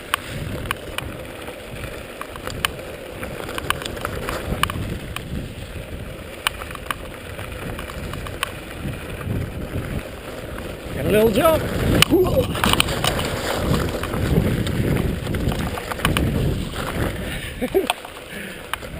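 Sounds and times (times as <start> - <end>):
bike clicks and rattles: 0.0 - 18.9
bike tyres rumbling on dirt: 0.0 - 18.9
wind on microphone: 0.3 - 17.9.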